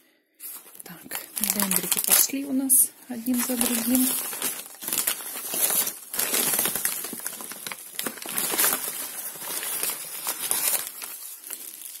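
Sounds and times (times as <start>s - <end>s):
wrapping paper rustling: 0.4s - 12.0s.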